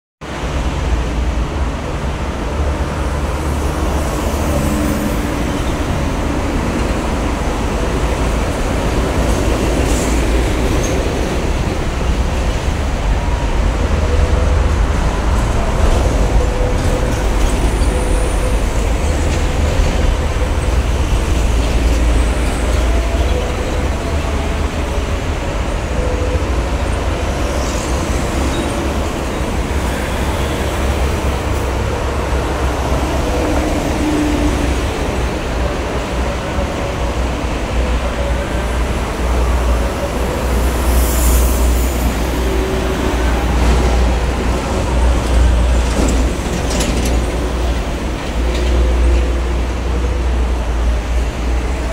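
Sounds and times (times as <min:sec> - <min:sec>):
heavy highway traffic rumble: 0:00.2 - 0:51.9.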